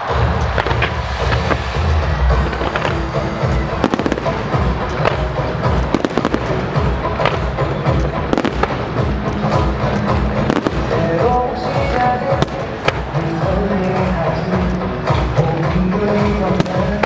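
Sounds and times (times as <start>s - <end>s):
fireworks bangs and crackles: 0.0s - 17.0s
loud show music: 0.0s - 17.0s.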